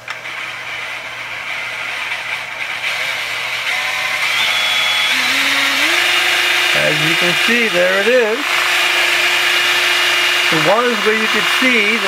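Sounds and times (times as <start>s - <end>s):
electric drill whining: 0.0s - 12.0s.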